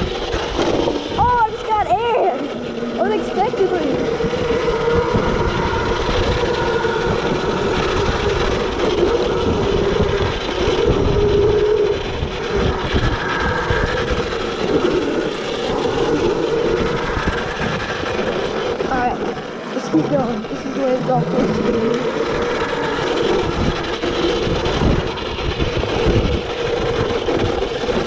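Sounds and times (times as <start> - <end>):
electric motor whining: 0.0 - 28.0
wind noise on microphone: 0.0 - 28.0.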